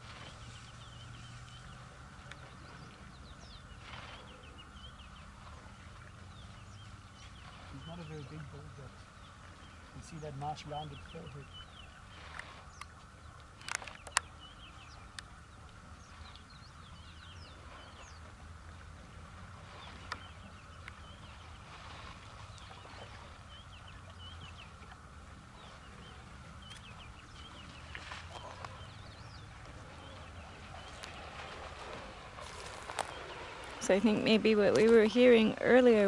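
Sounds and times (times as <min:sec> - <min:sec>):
small birds chirping: 0:00.1 - 0:18.8, 0:19.7 - 0:36.0.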